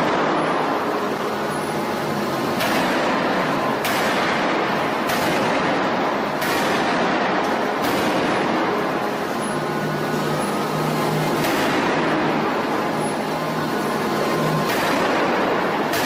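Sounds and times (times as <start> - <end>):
industrial din: 0.0 - 16.0.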